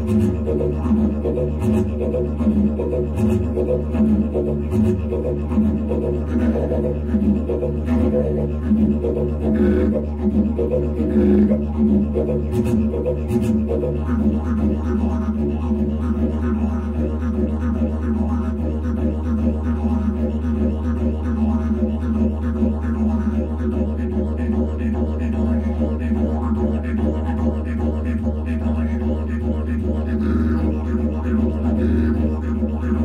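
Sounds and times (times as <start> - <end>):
didgeridoo drone: 0.0 - 33.0.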